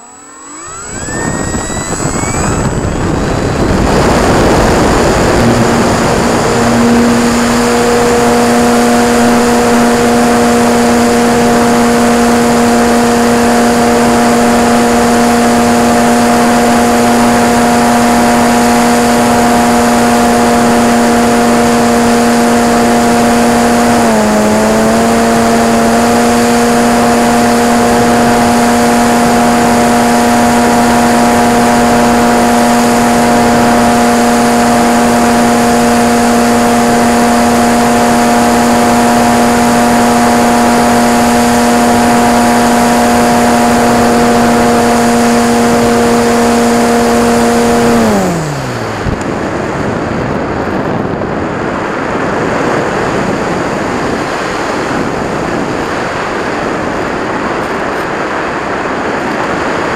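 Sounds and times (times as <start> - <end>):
electric motor and propeller whine: 0.0 - 59.9
rushing air: 0.0 - 59.9.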